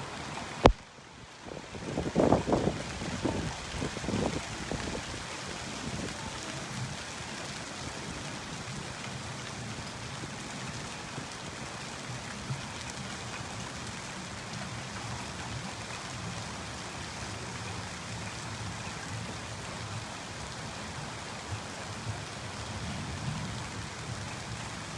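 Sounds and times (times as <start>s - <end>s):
heavy rain and hail pouring: 0.0s - 24.9s.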